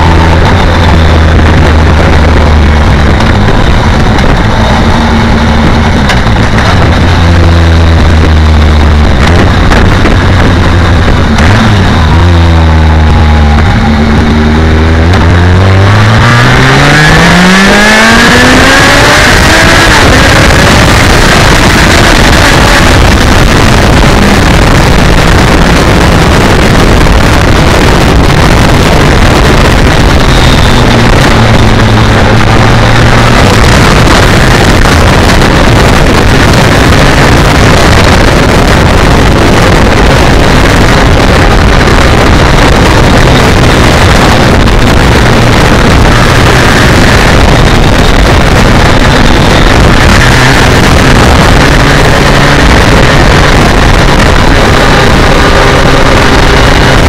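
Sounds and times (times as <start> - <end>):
motorcycle engine cruising: 0.0 - 57.0
wind rush on microphone: 0.0 - 57.0.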